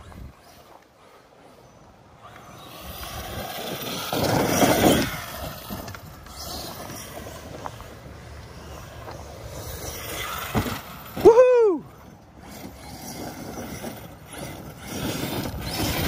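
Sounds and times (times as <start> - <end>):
rc truck driving over dirt: 0.0 - 16.0.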